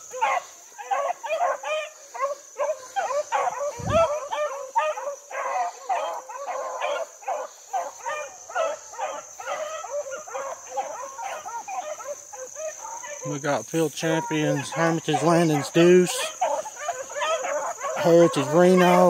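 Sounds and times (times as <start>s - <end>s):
hounds baying and yelping: 0.0s - 19.0s.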